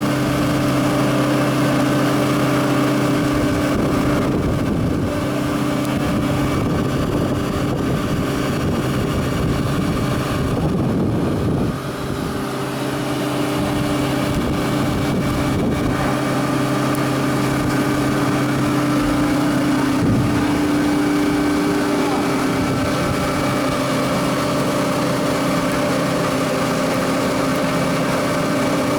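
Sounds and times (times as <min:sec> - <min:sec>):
blower fan motor hum: 0:00.0 - 0:28.9
continuous rushing noise: 0:00.0 - 0:28.9.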